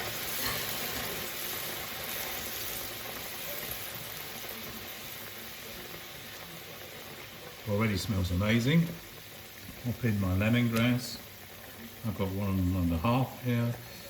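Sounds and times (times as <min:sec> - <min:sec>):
stock bubbling in a pan: 0:00.0 - 0:14.0.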